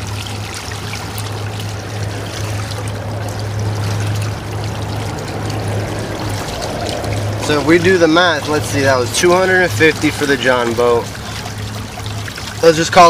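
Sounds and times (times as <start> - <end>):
water rushing along boat hull: 0.0 - 13.0.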